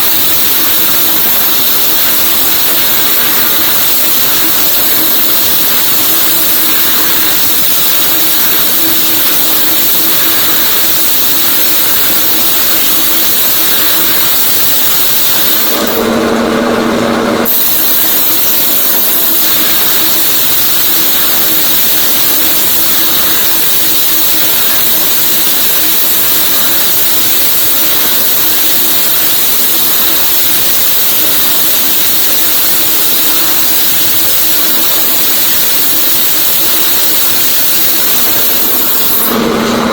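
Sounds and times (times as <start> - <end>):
sawmill machinery hissing: 0.0 - 16.4, 17.3 - 39.9.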